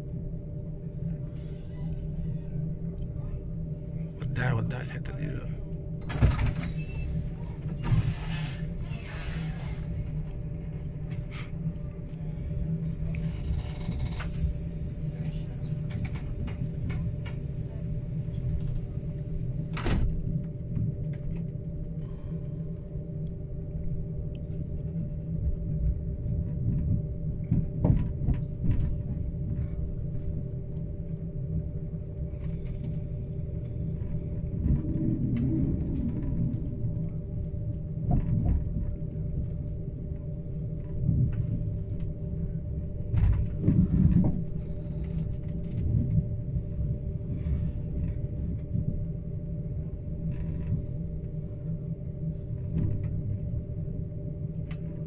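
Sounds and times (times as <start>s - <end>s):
faint steady hum: 0.0s - 55.0s
train low rumble: 0.0s - 55.0s.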